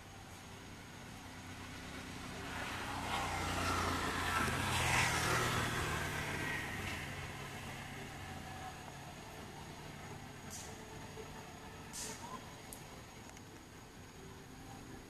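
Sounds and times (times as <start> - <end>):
motor vehicle passing by: 0.0 - 13.2.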